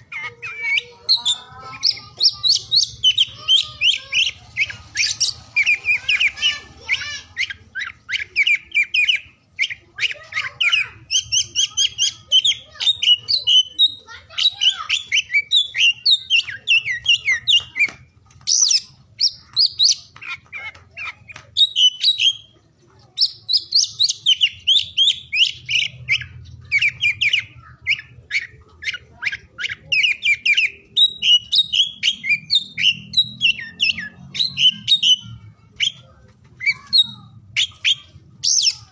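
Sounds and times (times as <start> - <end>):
bird singing varied notes: 0.0 - 38.9.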